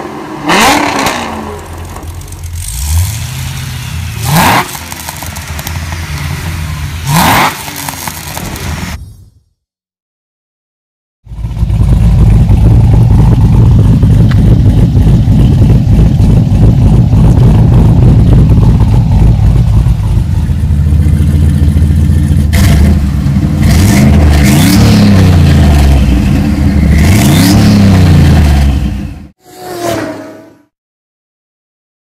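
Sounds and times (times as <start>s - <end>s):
engine rumbling and revving: 0.0s - 9.0s, 11.3s - 30.7s.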